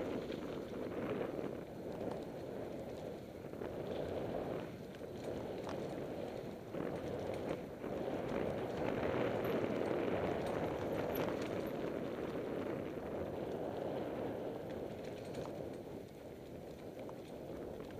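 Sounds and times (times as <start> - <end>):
bike clicks and rattles: 0.0 - 17.9
bike tyre and trail noise: 0.0 - 17.9.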